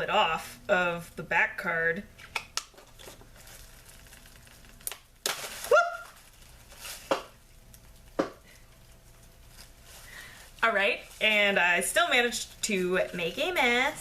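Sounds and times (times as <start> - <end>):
plastic packaging crackling: 2.3 - 14.0.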